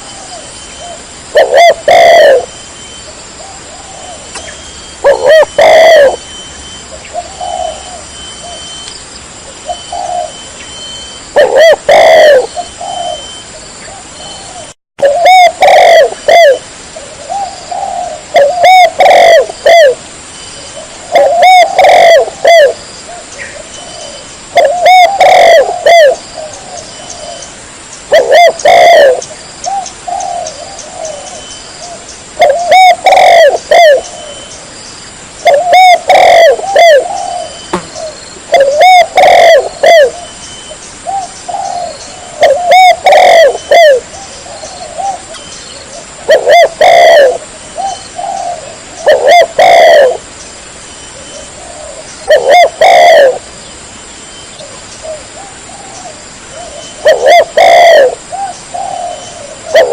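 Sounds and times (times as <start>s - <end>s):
dove cooing: 0.0s - 2.6s, 3.2s - 6.3s, 6.9s - 8.8s, 9.5s - 10.6s, 11.2s - 20.0s, 20.6s - 27.5s, 28.1s - 34.5s, 35.4s - 50.4s, 51.2s - 53.5s, 54.5s - 59.9s.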